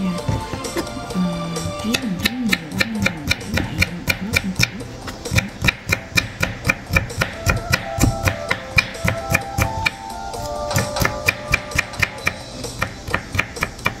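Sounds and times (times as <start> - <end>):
background music: 0.0 - 14.0
knife chopping on a wooden board: 1.6 - 10.0, 10.7 - 14.0.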